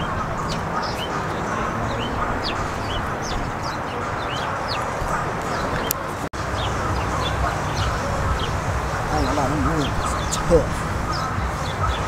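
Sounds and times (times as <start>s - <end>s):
birds chirping: 0.0s - 12.0s
loud steady outdoor din: 0.0s - 12.0s.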